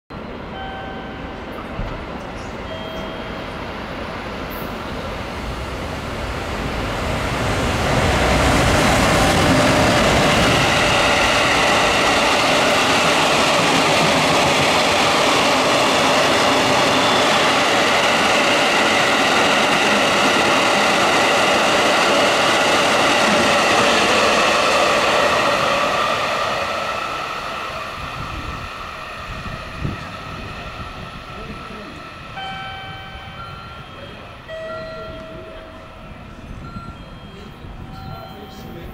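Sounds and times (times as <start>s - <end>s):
train wheels on rails: 0.2s - 38.9s.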